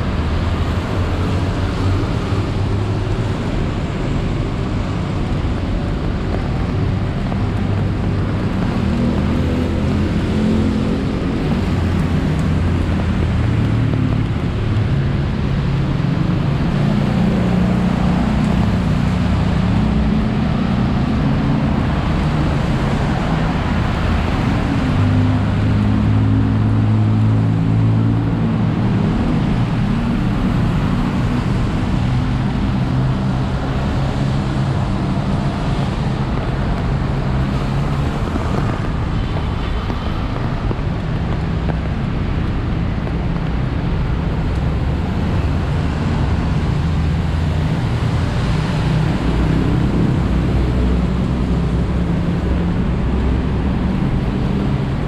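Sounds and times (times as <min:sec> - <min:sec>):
road traffic hiss: 0:00.0 - 0:55.0.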